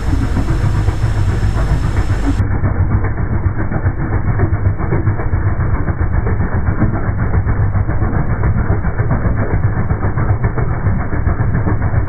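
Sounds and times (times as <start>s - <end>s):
engine valvetrain clatter: 0.0s - 12.0s.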